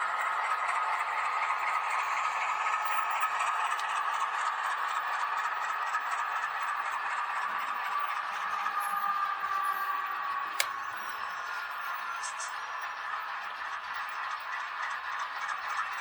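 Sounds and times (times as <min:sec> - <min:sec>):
model train motor whine: 0:00.0 - 0:16.0.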